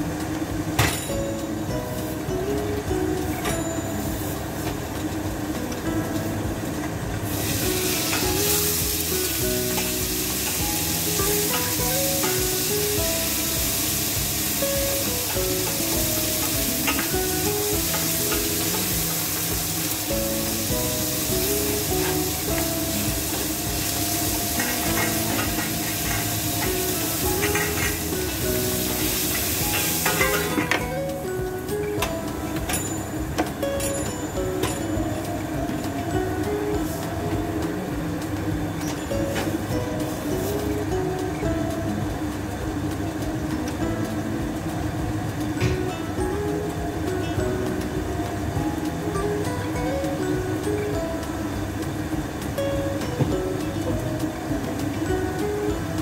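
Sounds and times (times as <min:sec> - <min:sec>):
background music: 0:00.0 - 0:56.0
food sizzling in a pot: 0:00.0 - 0:56.0.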